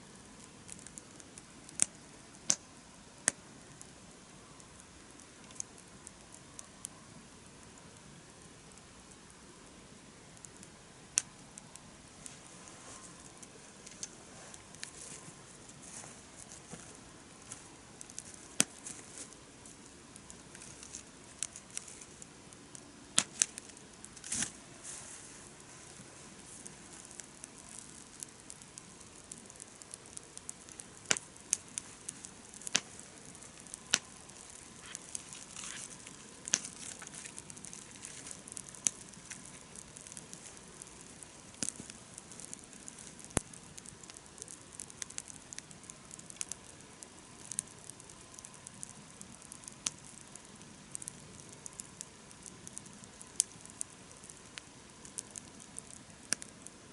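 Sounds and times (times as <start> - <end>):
campfire crackling and popping: 0.0 - 56.9
soft steady hiss: 0.0 - 56.9.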